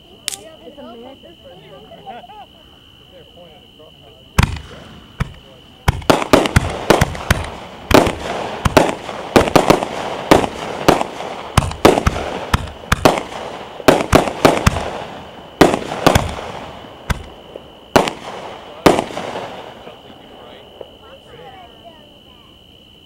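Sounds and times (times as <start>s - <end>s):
fireworks crackling: 0.0s - 22.6s
fireworks bangs: 3.1s - 22.5s.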